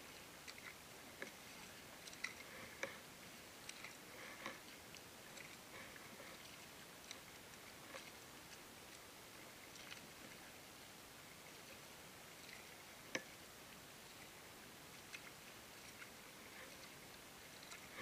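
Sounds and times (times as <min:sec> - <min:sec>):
low steady water hiss: 0:00.0 - 0:18.0
water drips against kayak hull: 0:00.0 - 0:18.0.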